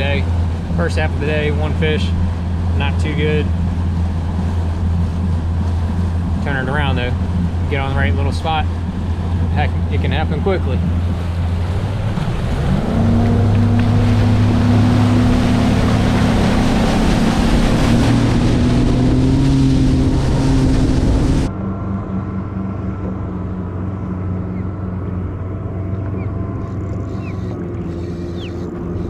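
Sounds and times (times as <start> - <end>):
outboard motor running: 0.0 - 29.0
rush of wind and water: 0.0 - 29.0.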